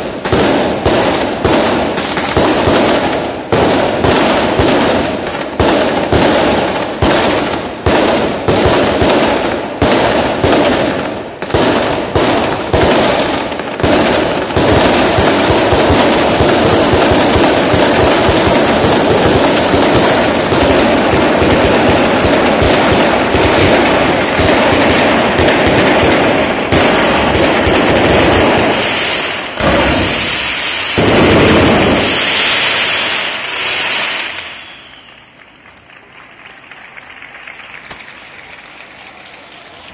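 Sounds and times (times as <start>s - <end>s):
fireworks hissing bursts: 0.0s - 35.6s
fireworks bangs and crackles: 0.0s - 39.9s.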